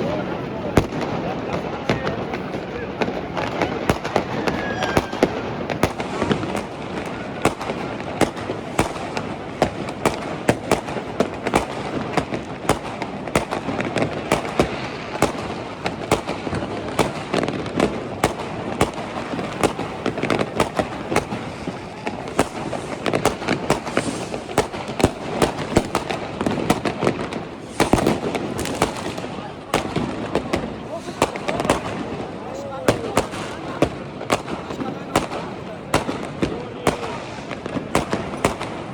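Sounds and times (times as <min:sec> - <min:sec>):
distant bangs: 0:00.0 - 0:38.9
fireworks and firecrackers banging: 0:00.0 - 0:38.9.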